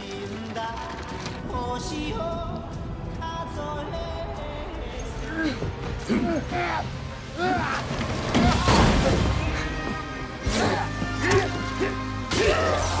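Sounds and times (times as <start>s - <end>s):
dramatic music score: 0.0s - 13.0s.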